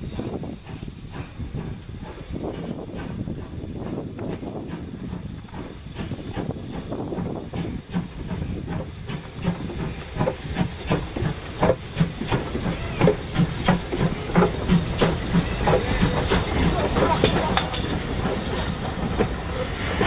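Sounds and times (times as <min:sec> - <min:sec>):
steam hissing: 0:00.0 - 0:20.0
steam locomotive chuffing: 0:00.0 - 0:20.0.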